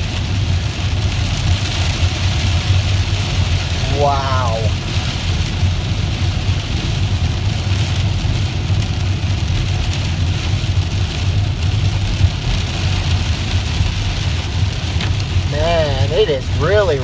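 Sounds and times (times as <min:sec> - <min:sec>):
car engine drone: 0:00.0 - 0:17.0
heavy rain on a car: 0:00.0 - 0:17.0
road noise: 0:00.0 - 0:17.0.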